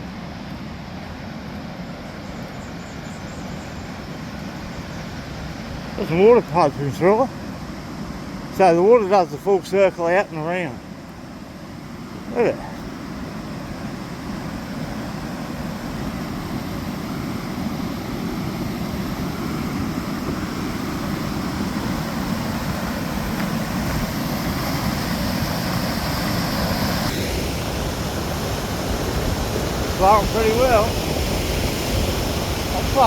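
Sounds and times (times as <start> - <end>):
water rushing over a weir: 3.6 - 33.0.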